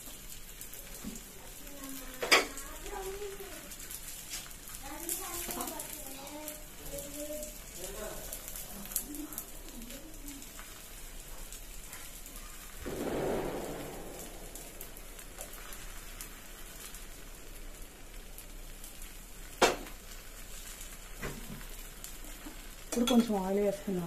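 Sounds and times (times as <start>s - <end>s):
flatbread sizzling on a pan: 0.0s - 24.0s.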